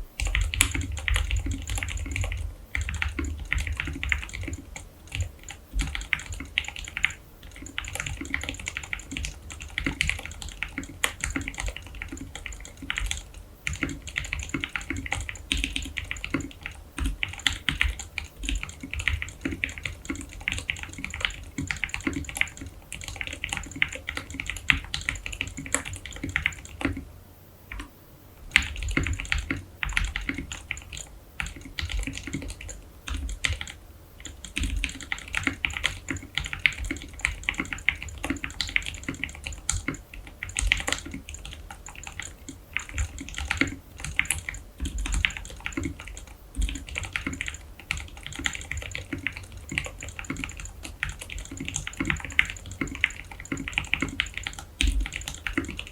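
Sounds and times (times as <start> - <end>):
mechanical keyboard typing: 0.2 - 27.1, 28.5 - 55.9.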